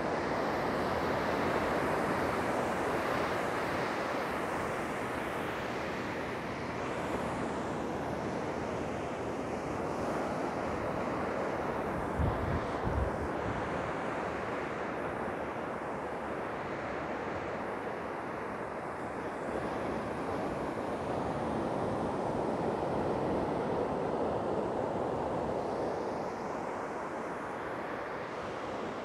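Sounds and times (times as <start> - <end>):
waves breaking on sandy beach: 0.0 - 29.0.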